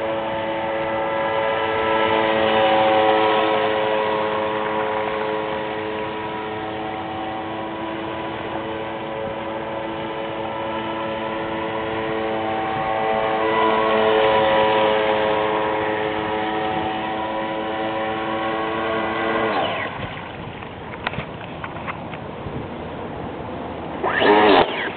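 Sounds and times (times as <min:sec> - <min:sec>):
electric motor high whine: 0:00.0 - 0:20.3, 0:24.0 - 0:24.9.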